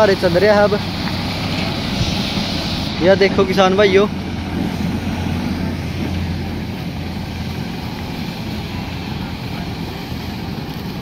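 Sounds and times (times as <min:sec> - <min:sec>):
tractor diesel engine humming: 0:00.0 - 0:11.0.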